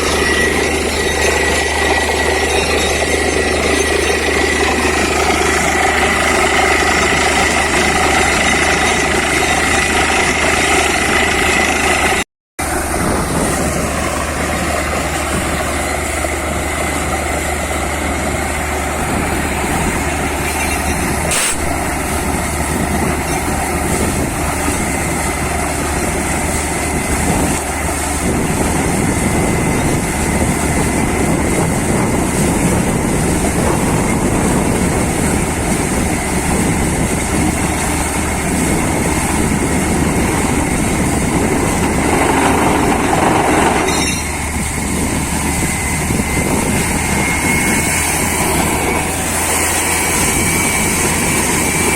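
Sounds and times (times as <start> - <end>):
drilling rig running: 0.0 - 51.9.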